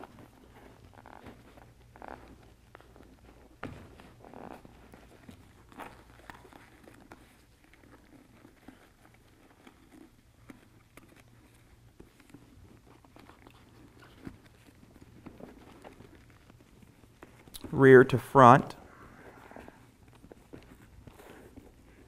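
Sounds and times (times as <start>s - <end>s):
rustling of foam and fabric: 0.0s - 17.9s, 18.8s - 22.0s.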